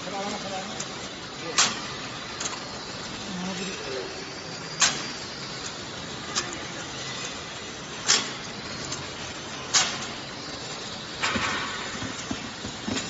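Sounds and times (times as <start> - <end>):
conveyor mechanical hum: 0.0 - 13.0.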